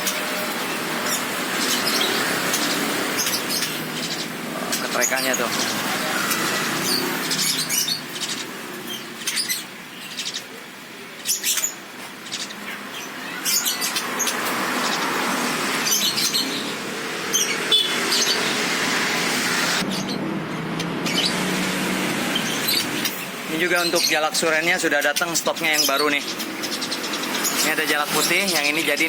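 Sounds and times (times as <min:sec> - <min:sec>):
songbirds chirping: 0:00.0 - 0:29.0
steady background noise: 0:00.0 - 0:29.0.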